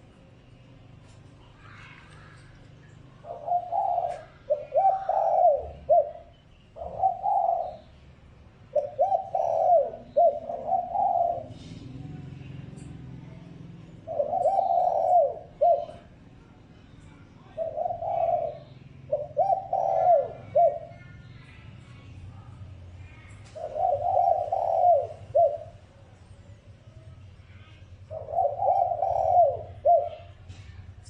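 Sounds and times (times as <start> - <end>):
dove cooing: 1.6 - 16.6, 17.4 - 26.2, 27.1 - 31.0.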